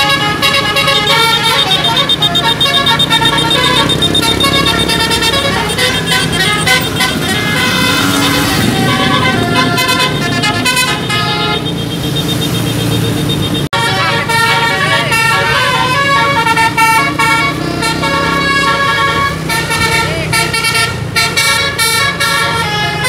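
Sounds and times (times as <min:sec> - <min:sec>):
musical air horn melody: 0:00.0 - 0:13.0, 0:13.7 - 0:23.0.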